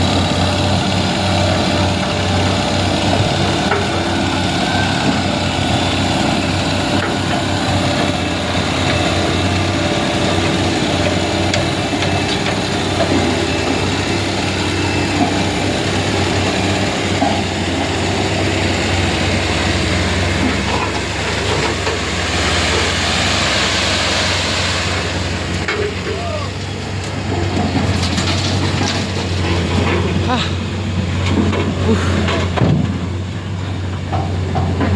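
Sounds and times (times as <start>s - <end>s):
heavy vehicle engine running: 0.0s - 34.9s.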